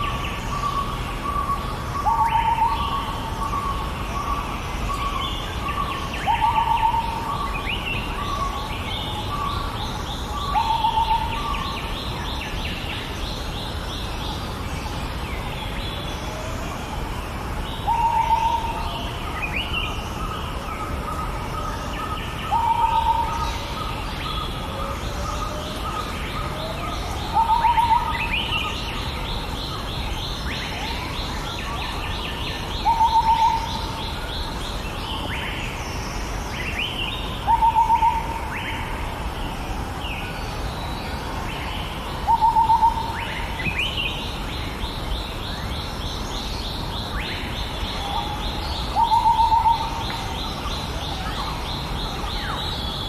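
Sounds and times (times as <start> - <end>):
birds calling and chirping: 0.0 - 53.0
steady background hiss: 0.0 - 53.0.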